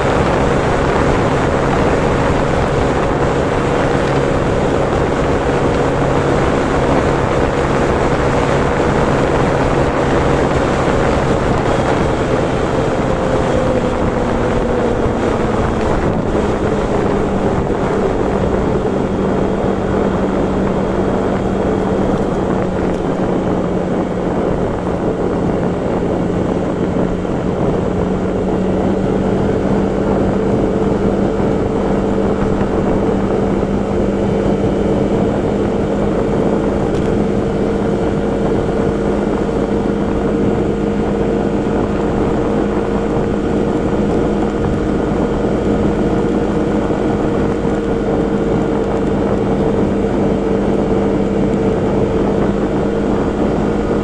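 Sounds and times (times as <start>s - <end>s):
vehicle engine running: 0.0s - 54.0s
wind and road rush: 0.0s - 54.0s.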